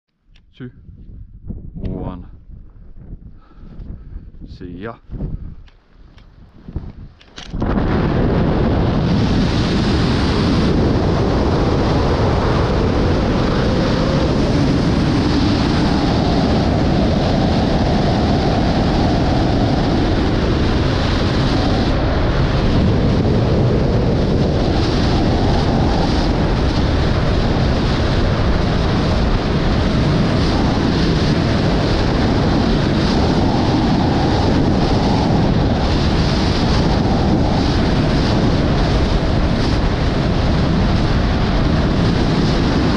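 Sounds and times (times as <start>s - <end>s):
wind noise on microphone: 0.1s - 42.9s.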